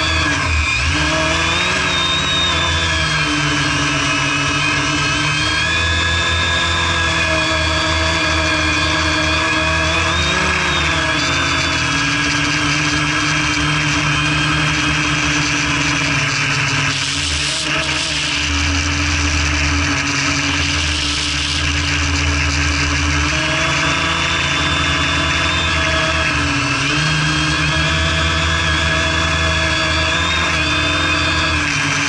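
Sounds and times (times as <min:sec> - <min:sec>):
quadcopter propellers whining: 0:00.0 - 0:32.0.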